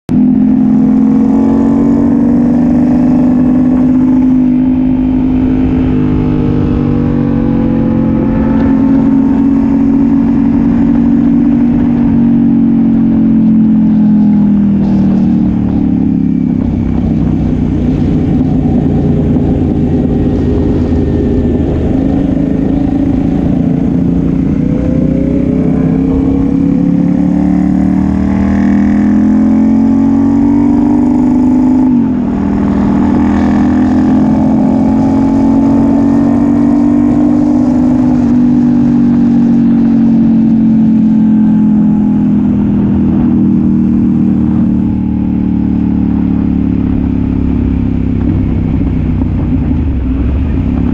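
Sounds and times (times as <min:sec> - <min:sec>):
motorcycle engine accelerating: 0:00.1 - 0:50.9
wind rush: 0:00.3 - 0:50.9.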